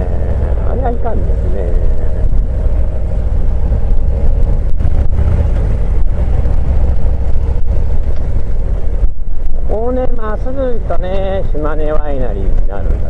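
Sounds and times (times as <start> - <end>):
motorcycle engine rumble: 0.0 - 13.0
road noise: 0.0 - 13.0
wind noise: 0.0 - 13.0.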